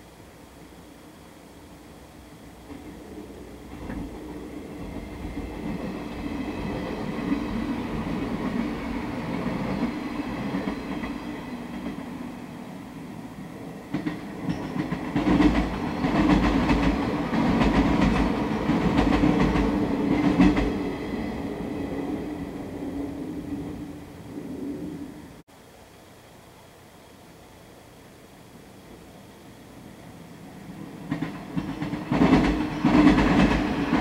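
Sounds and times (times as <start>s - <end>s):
train rumble: 0.0s - 25.4s, 28.5s - 34.0s.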